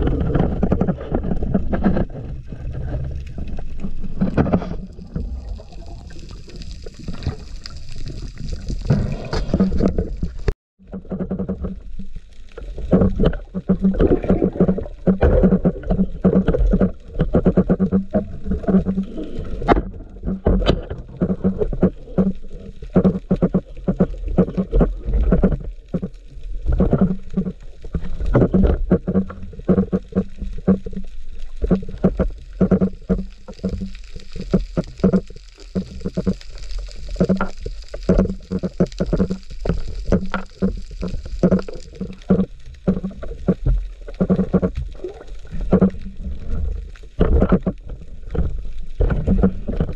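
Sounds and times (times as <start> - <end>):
underwater knocks and rumbles: 0.0 - 49.9
underwater rushing water: 0.0 - 49.9.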